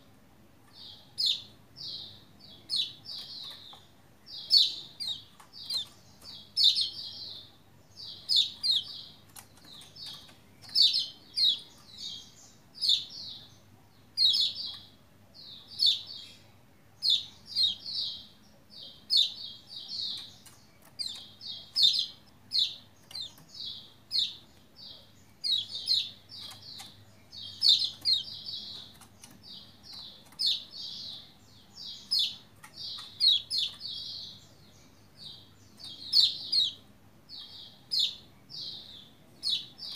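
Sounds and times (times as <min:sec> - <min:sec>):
bird singing high chirps: 0:00.8 - 0:13.6, 0:14.2 - 0:39.9.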